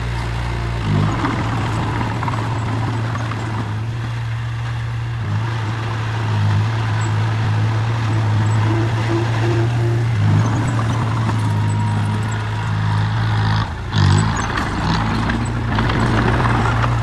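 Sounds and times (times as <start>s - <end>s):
construction machine engine humming: 0.0s - 17.0s.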